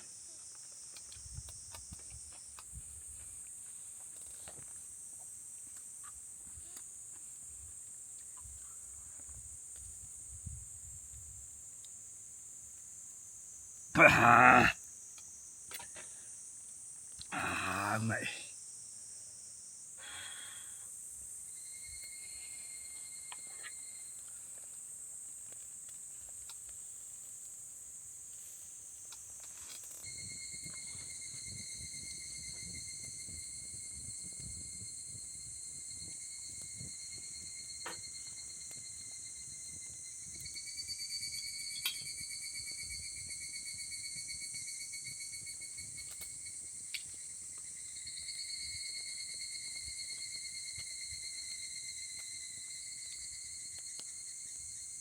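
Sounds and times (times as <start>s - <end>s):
cricket trill: 0.0s - 55.0s
insects chirring: 0.0s - 55.0s.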